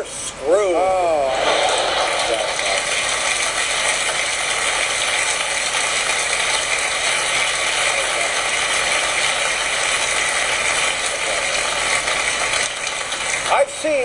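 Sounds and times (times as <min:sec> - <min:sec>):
audience applauding: 0:01.0 - 0:14.0.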